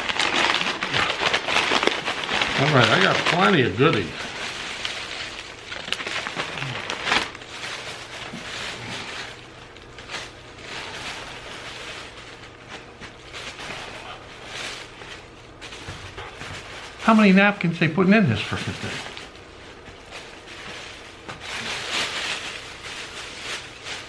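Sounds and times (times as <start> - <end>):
takeout bag rustling: 0.0 - 24.0.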